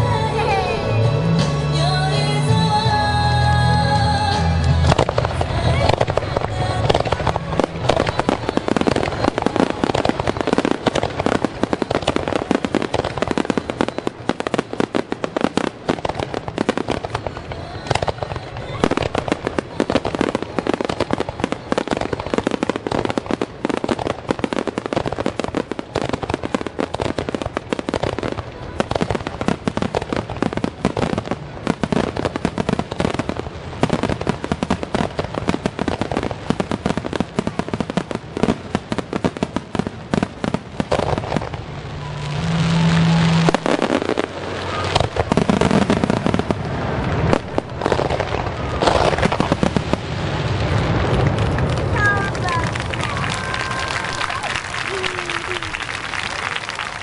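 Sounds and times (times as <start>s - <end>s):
firework bangs and crackling: 0.0s - 57.0s.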